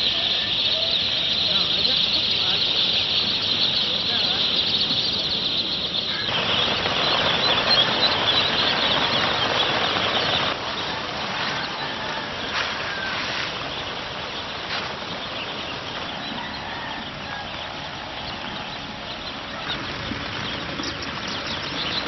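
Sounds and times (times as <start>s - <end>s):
ducklings peeping: 0.0s - 22.0s.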